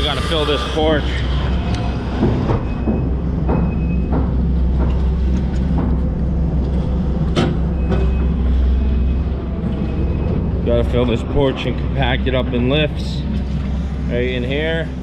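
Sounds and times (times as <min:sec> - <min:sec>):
diesel engine running: 0:00.0 - 0:15.0
machine clanks and knocks: 0:00.2 - 0:14.1.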